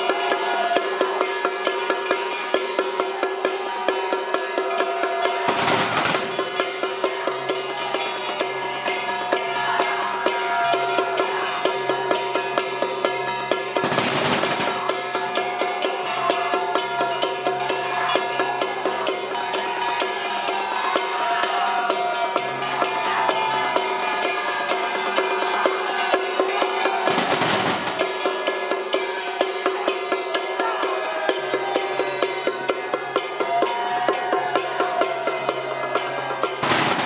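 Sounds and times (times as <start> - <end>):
drums and cymbals beat: 0.0 - 37.0.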